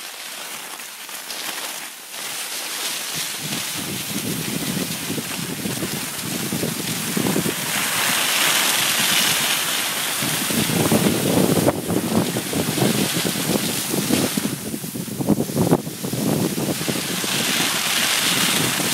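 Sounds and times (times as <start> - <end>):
skis sliding on snow: 0.0 - 18.9
wind buffeting microphone: 3.1 - 18.9.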